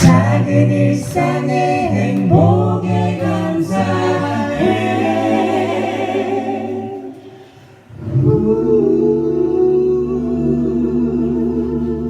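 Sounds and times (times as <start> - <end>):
vocal group singing a cappella: 0.0 - 12.0.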